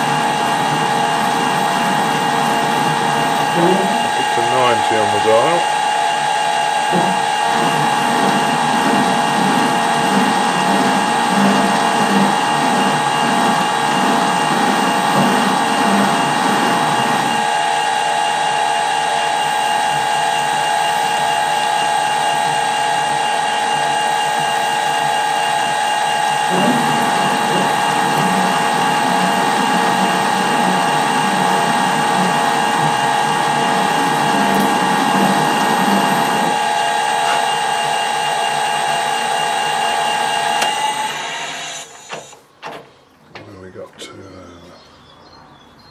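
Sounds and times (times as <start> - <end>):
lathe gear whine: 0.0 - 42.5
rattling cutting noise: 0.0 - 42.8.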